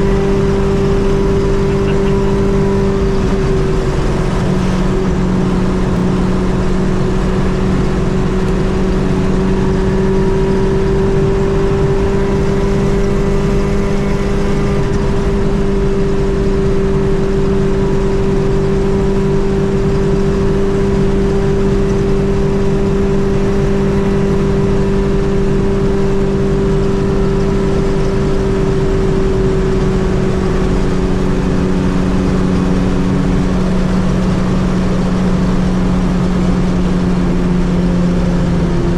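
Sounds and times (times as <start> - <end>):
car engine cruising: 0.0 - 38.9
road noise: 0.0 - 38.9.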